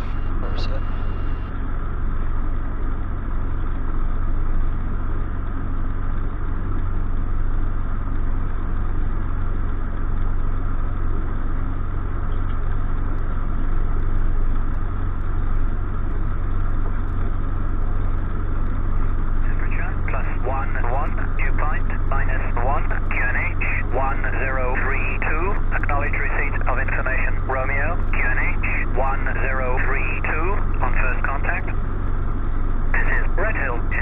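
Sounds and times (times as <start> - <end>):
aircraft engine idling: 0.0 - 34.0.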